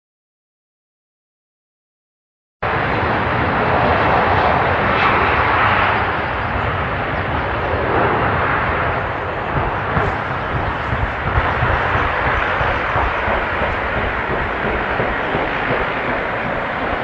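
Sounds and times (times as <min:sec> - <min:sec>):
jet engines running: 0:02.6 - 0:17.0.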